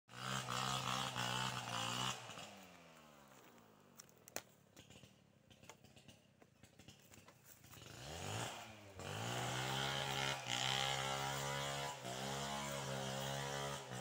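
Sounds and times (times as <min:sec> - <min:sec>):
small engine running: 0:00.1 - 0:04.0, 0:04.7 - 0:14.0.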